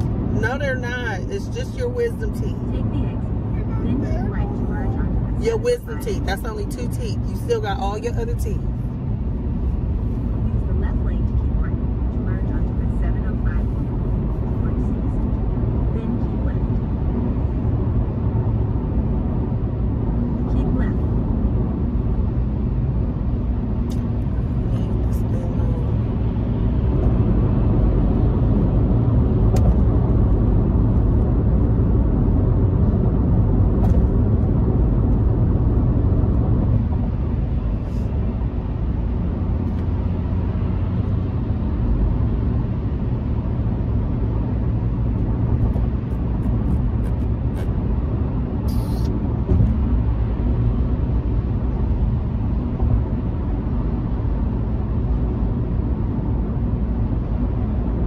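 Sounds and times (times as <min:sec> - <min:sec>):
car cabin road noise: 0:00.0 - 0:58.0
low rumble of tyres and engine: 0:00.0 - 0:58.0.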